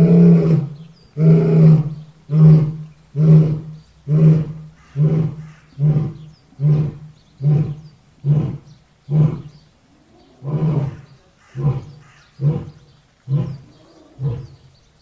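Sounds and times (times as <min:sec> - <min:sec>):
lion roaring: 0:00.0 - 0:14.7.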